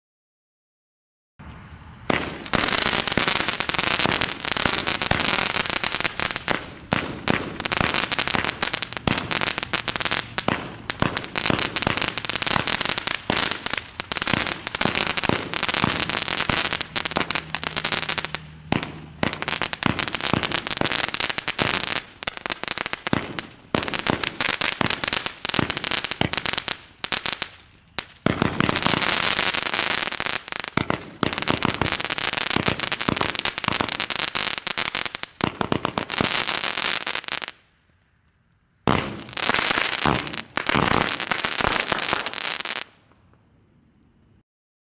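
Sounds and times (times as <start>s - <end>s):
firework cracks and pops: 2.1s - 43.4s.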